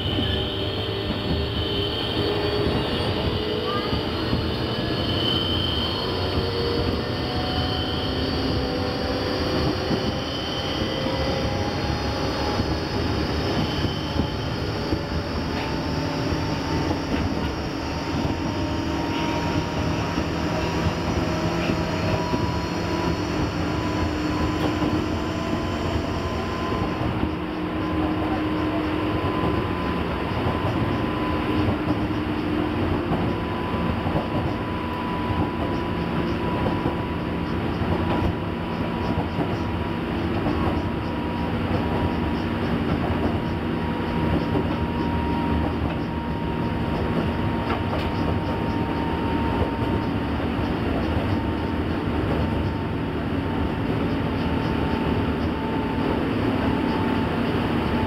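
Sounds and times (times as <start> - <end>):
wheel-on-rail noise: 0.1 - 58.0.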